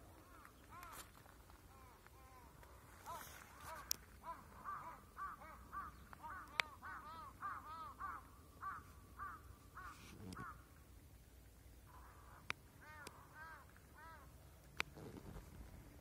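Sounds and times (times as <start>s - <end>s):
birds calling: 0.0s - 10.8s, 11.9s - 15.4s.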